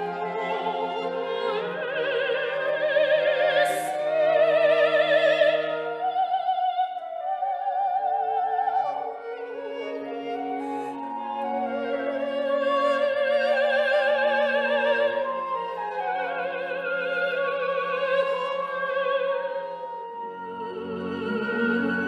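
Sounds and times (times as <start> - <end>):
orchestral accompaniment: 0.0 - 22.0.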